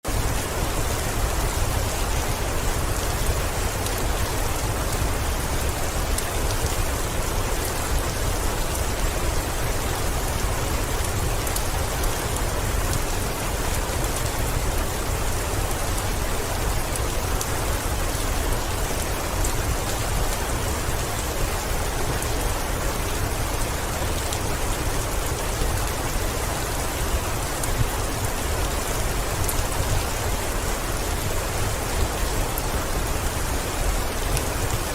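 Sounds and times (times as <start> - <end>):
heavy rain on a window: 0.0 - 34.9.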